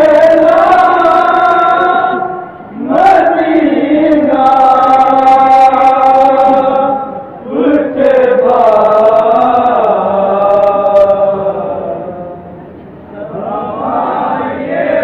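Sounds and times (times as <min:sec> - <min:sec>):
men chanting in unison: 0:00.0 - 0:12.4, 0:13.2 - 0:15.0.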